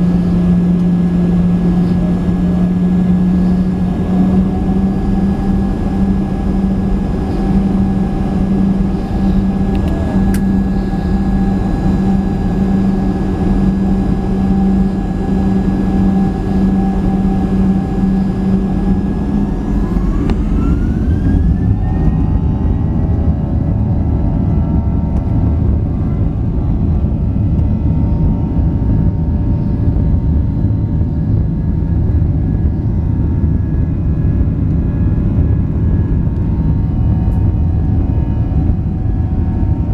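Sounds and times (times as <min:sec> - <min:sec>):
jet engines whining: 0:00.0 - 0:39.9
takeoff roll rumble: 0:00.0 - 0:39.9.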